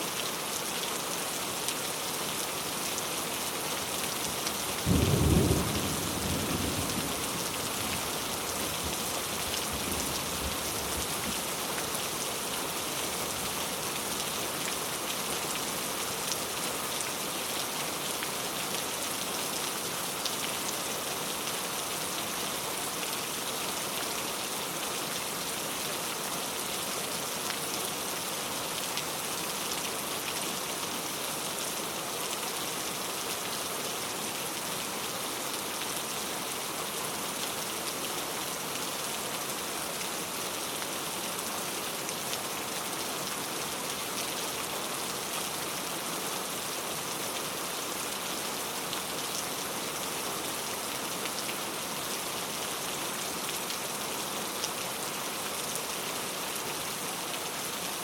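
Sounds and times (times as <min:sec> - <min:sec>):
very heavy rain: 0:00.0 - 0:58.0.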